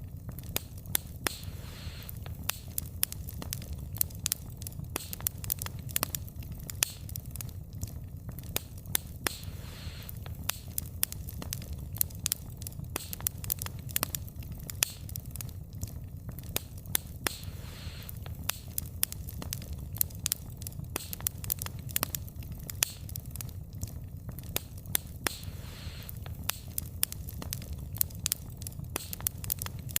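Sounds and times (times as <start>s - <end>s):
soft hiss: 0.0s - 30.0s
wood fire popping and snapping: 0.0s - 30.0s.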